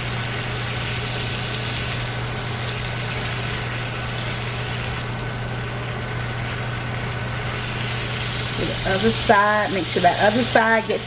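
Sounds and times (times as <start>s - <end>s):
steaks sizzling in a skillet: 0.0s - 11.0s.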